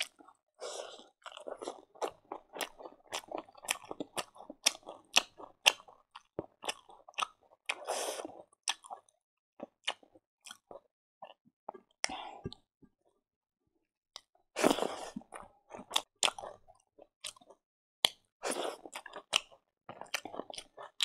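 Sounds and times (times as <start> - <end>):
person chewing crunchy food: 0.0 - 11.9, 14.2 - 21.0.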